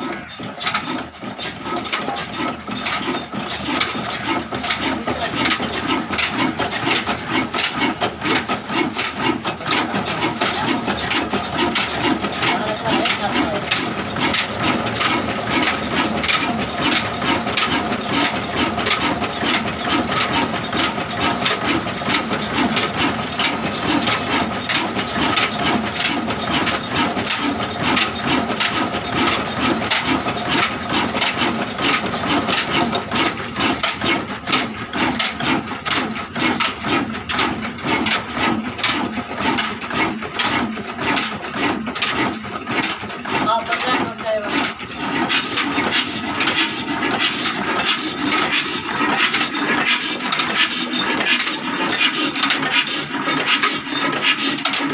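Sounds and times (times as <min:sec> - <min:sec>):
diesel engine knocking: 0:00.0 - 0:54.9.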